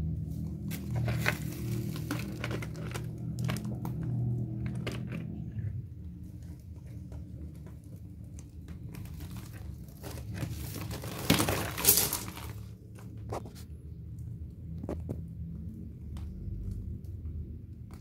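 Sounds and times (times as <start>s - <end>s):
low steady hum: 0.0s - 18.0s
rustling and crunching: 0.0s - 18.0s.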